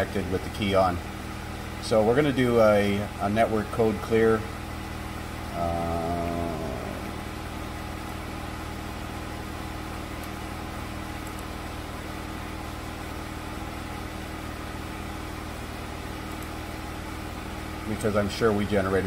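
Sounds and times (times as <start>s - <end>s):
car engine idling: 0.0s - 19.0s
heater blower motor running: 0.0s - 19.0s.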